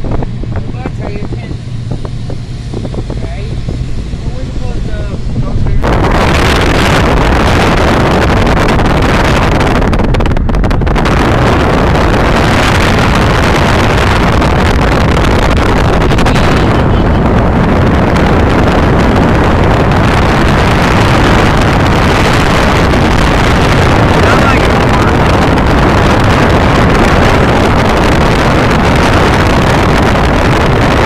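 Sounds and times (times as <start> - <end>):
wind and road noise inside car: 0.0 - 31.0.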